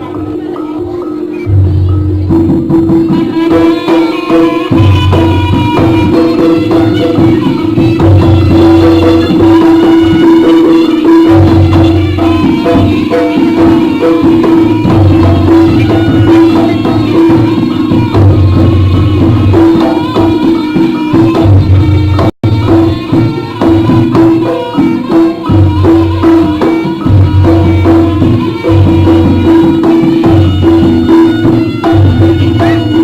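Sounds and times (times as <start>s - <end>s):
drums and tuned percussion: 0.0s - 33.0s.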